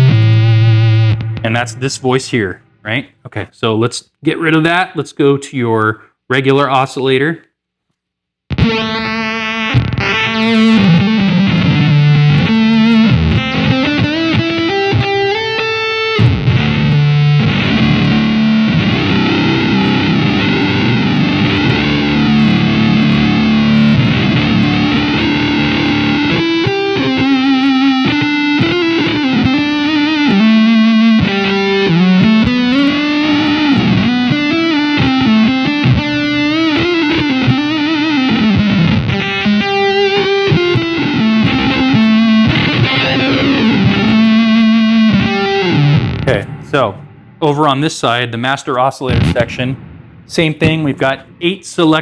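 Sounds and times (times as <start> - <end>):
distorted synth guitar: 0.0 - 2.9, 8.5 - 52.0.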